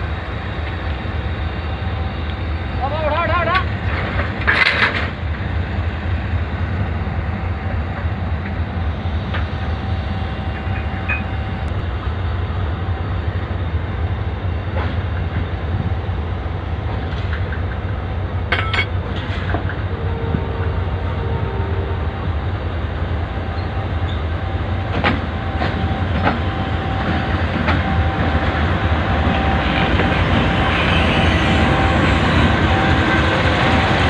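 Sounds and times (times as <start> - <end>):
diesel locomotive engine drone: 0.0 - 34.0.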